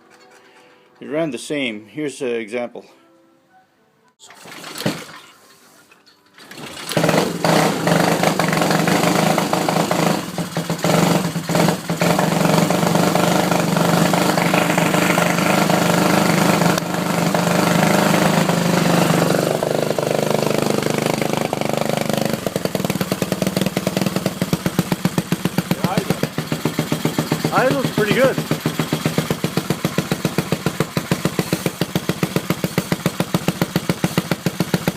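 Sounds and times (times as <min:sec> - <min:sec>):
engine sputtering: 0:06.3 - 0:34.9
motorbike engine running: 0:06.5 - 0:34.9.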